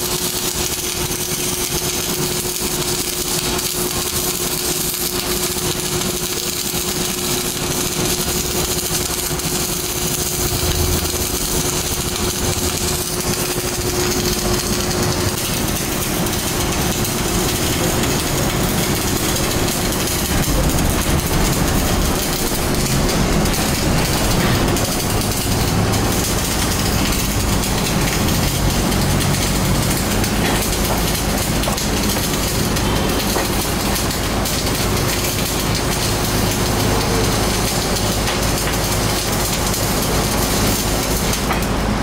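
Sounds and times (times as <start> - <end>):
welding arc crackling and hissing: 0.0 - 42.0.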